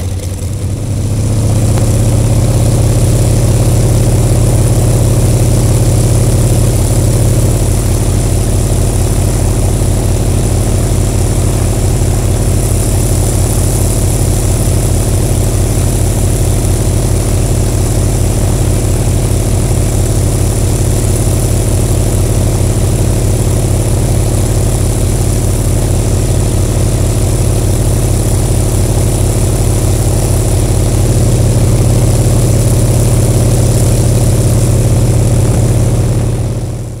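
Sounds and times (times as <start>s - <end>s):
propeller plane engine idling: 0.0s - 37.0s.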